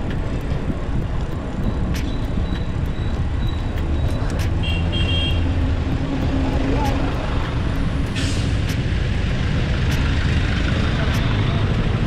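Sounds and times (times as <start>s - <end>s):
wind and road rumble: 0.0s - 12.0s.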